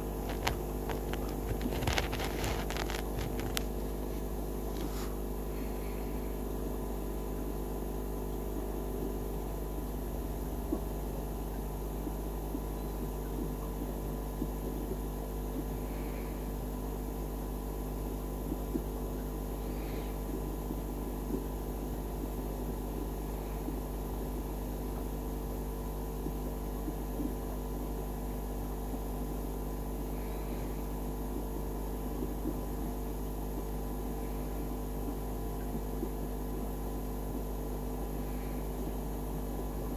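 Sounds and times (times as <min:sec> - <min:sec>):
aquarium equipment humming: 0:00.0 - 0:39.9.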